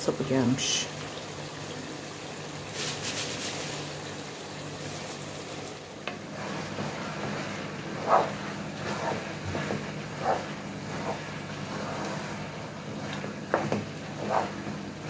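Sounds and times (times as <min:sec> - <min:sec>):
wooden spoon stirring in a pot: 0:02.8 - 0:15.0.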